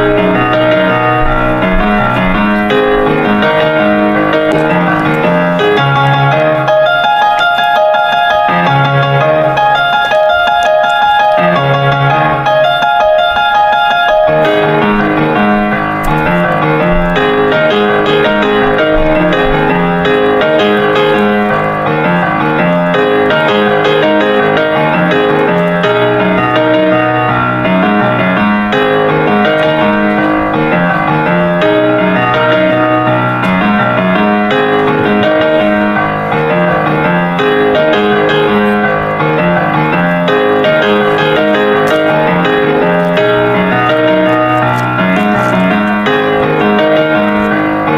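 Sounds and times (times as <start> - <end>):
background piano music: 0.0 - 47.9.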